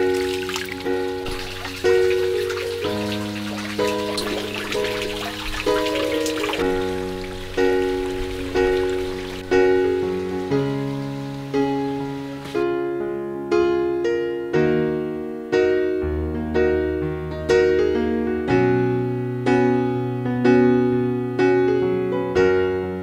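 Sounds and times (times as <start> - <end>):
gentle piano chords: 0.0 - 23.0.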